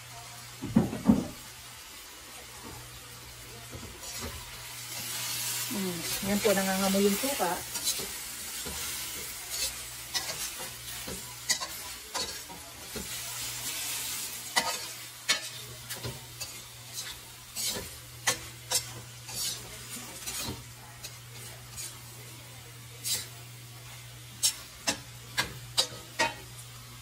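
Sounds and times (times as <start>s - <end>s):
chicken sizzling in skillet: 0.0s - 27.0s
metal turner scraping pan: 4.0s - 22.2s, 23.0s - 26.6s.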